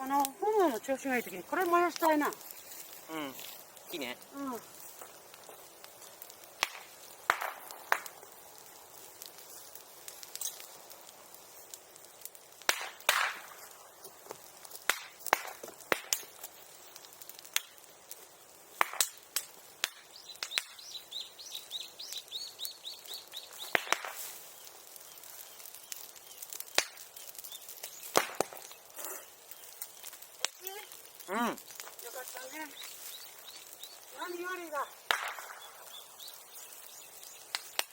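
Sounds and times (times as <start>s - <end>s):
bonfire crackling: 0.0s - 37.9s.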